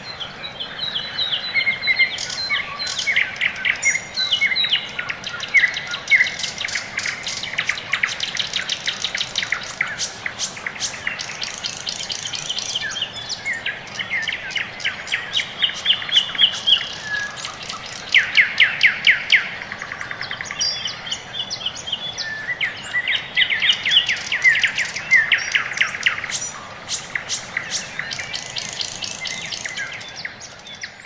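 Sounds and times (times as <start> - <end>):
songbirds chirping and trilling: 0.0 - 31.0.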